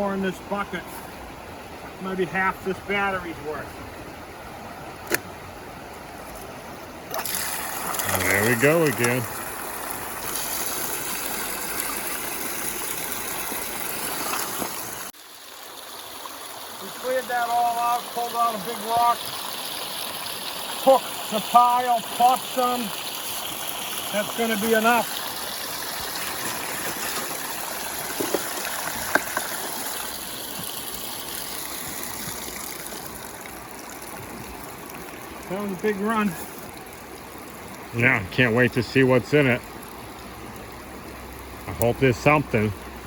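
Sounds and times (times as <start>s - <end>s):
water rushing: 0.0s - 43.0s
water pump running: 7.1s - 43.0s.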